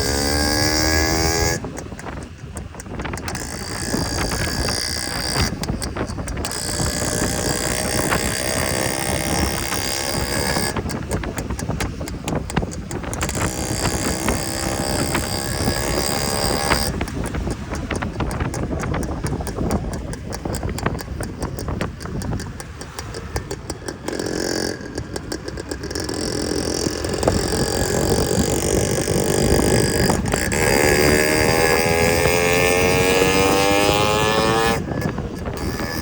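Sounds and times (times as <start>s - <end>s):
two-stroke engine running: 0.0s - 36.0s.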